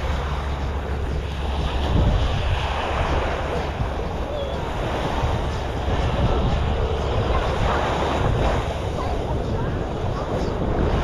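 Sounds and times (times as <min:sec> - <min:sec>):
surf washing onto shore: 0:00.0 - 0:11.0
wind buffeting microphone: 0:00.0 - 0:11.0.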